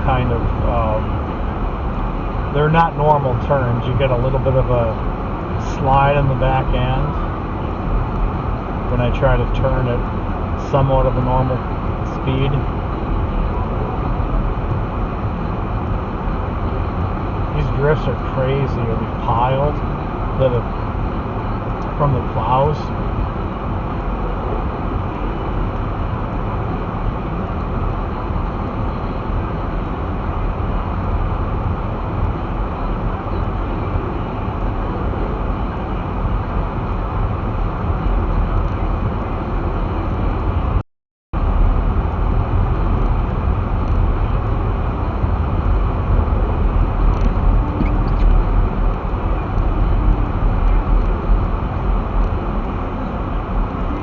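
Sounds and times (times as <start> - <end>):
car tyres and engine rumble: 0.0 - 40.8, 41.4 - 54.0.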